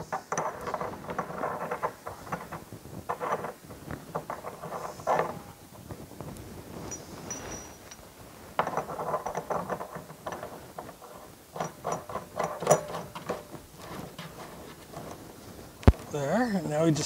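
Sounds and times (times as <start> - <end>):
nut clicking and scraping on threads: 0.0 - 5.6, 6.9 - 16.2.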